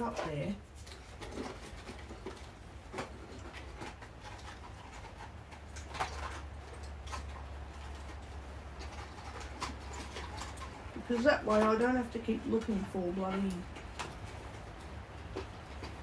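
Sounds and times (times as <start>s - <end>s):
cardboard boxes clicking and rustling: 0.0s - 16.0s.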